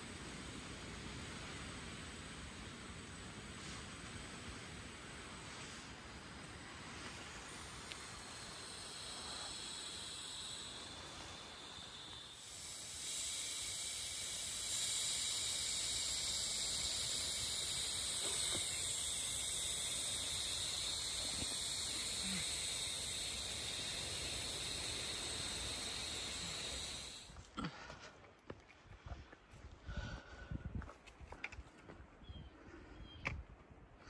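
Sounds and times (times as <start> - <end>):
steady high-pitched hiss: 0.0 - 30.9.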